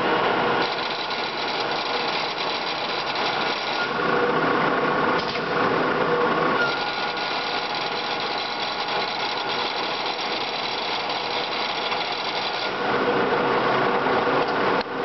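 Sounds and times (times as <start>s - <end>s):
boring mill mechanical whir: 0.0s - 15.0s.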